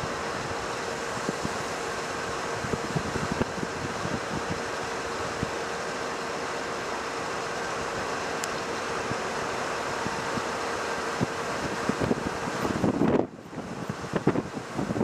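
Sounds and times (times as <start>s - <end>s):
road and wind noise: 0.0s - 15.0s
vehicle hum: 0.0s - 15.0s.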